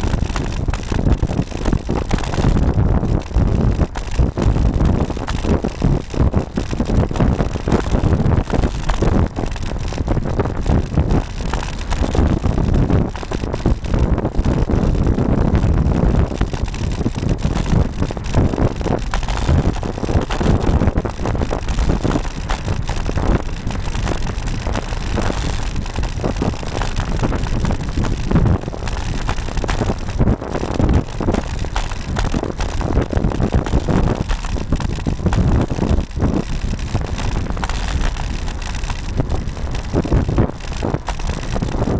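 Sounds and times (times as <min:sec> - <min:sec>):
low road rumble: 0:00.0 - 0:41.9
wind rushing over microphone: 0:00.0 - 0:41.9.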